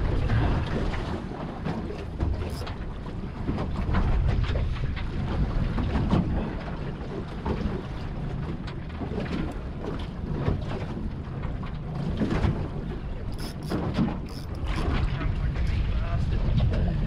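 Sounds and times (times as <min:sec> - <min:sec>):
water slapping against hull: 0:00.0 - 0:17.0.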